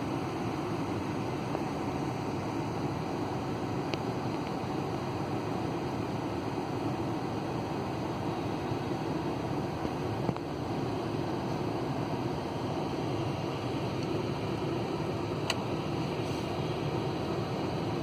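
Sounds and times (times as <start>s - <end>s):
machinery rumble and hiss: 0.0s - 18.0s.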